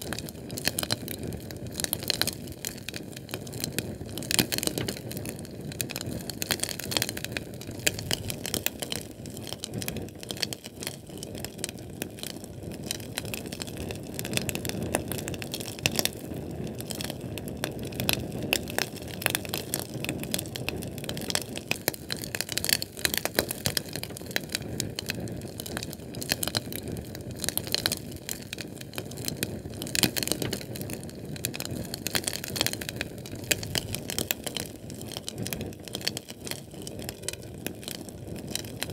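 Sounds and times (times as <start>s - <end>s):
fire crackling and popping: 0.0s - 38.9s
fire rushing: 0.0s - 38.9s.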